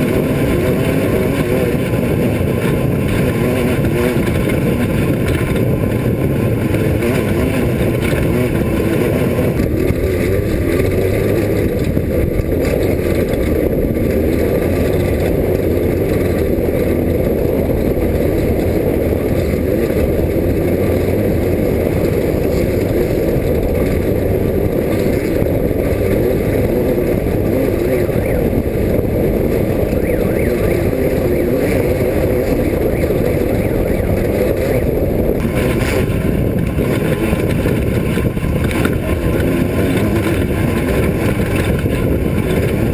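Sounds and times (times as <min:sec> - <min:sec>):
race car engine running hard: 0:00.0 - 0:42.9
rumble of driving over dirt: 0:00.0 - 0:42.9
wind: 0:00.0 - 0:42.9.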